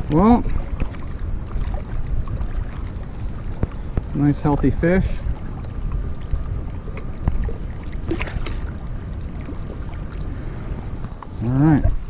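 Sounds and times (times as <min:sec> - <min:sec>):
fish splashing in water: 0:00.0 - 0:11.2
wind rumbling on microphone: 0:00.0 - 0:12.0.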